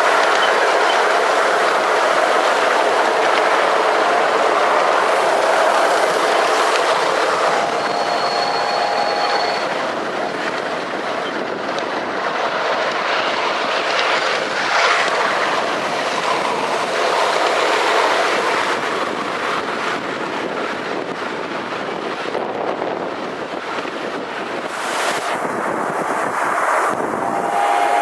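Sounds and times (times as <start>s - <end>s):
miniature train running on track: 0.0s - 25.2s
wind on the microphone: 0.0s - 28.0s.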